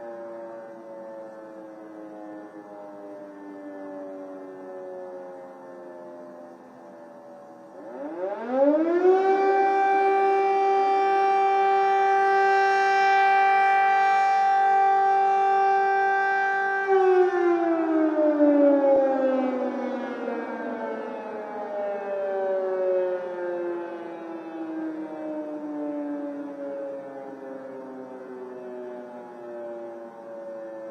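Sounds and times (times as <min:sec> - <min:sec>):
air-raid siren wailing: 0:00.0 - 0:30.9
faint falling siren tone: 0:00.0 - 0:30.9.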